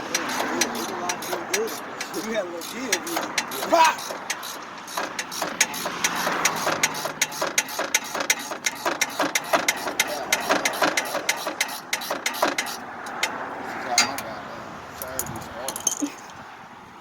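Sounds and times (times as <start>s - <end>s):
hand tool clicking: 0.0s - 13.4s, 14.0s - 14.3s.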